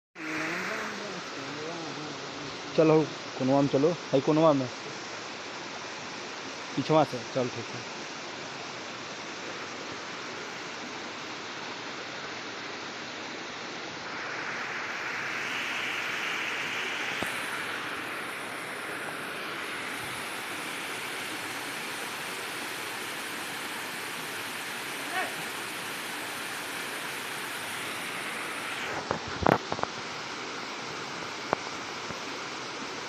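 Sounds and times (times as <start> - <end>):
stream rushing over rocks: 0.2 - 33.0.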